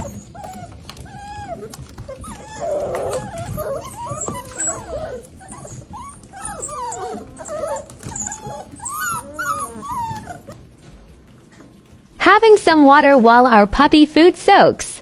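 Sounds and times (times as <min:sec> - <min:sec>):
puppies whining and yipping: 0:00.0 - 0:12.0.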